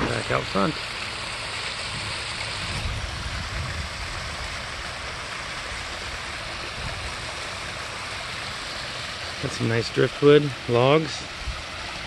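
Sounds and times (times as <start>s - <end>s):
waterfall splashing into pond: 0.0s - 12.0s.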